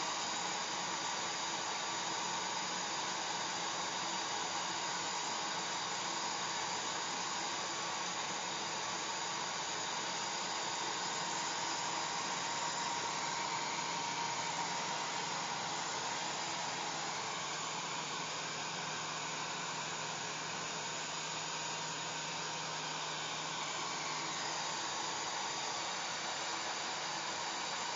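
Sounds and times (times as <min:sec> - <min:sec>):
faint motor hum: 0:00.0 - 0:27.9
hair dryer airy rush: 0:00.0 - 0:27.9.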